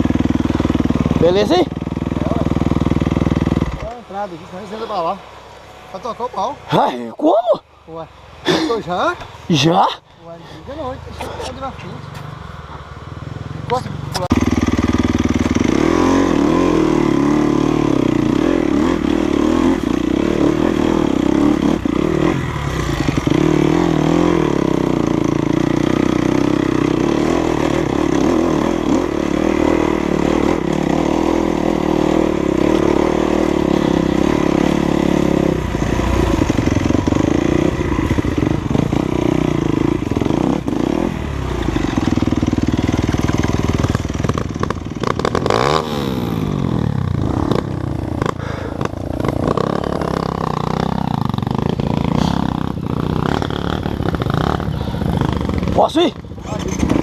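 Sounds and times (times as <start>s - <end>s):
dirt bike engine running: 0.0s - 5.2s, 13.4s - 57.0s.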